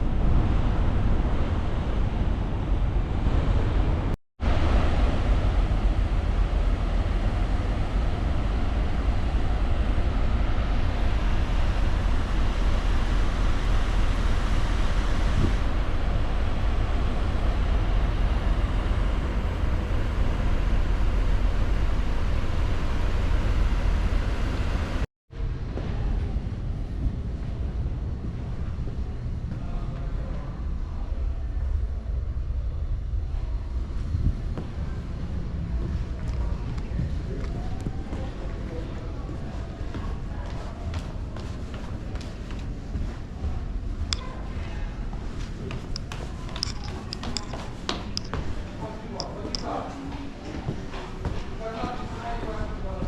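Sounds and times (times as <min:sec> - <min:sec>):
wind buffeting microphone: 0:00.0 - 0:48.8
ferry engine rumble: 0:00.0 - 0:53.0.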